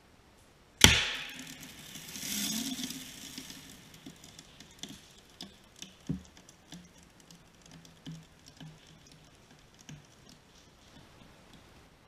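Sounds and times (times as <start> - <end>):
water dripping onto wood: 0.8 - 12.0.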